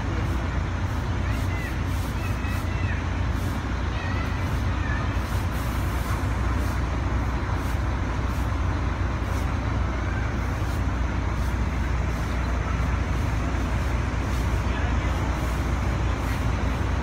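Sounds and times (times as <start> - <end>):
large vehicle engines idling: 0.0 - 17.0.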